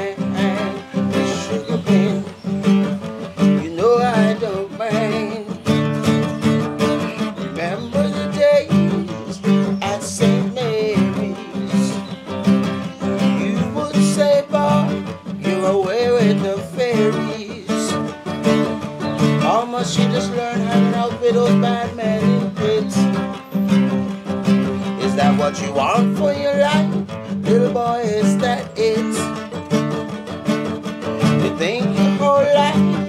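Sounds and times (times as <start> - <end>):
acoustic guitar strumming chords: 0.0 - 33.0.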